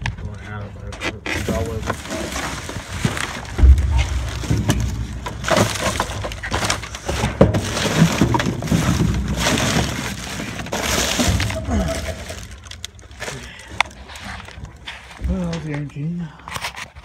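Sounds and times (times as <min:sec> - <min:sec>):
plastic bags and bottles crinkling: 0:01.1 - 0:17.0.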